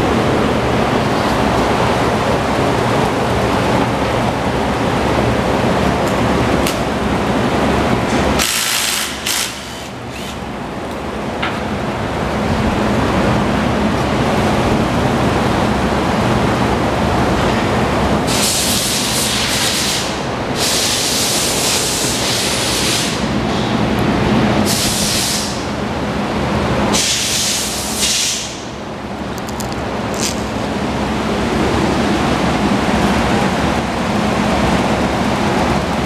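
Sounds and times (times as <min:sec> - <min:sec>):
fan air rushing: 0:00.0 - 0:36.0.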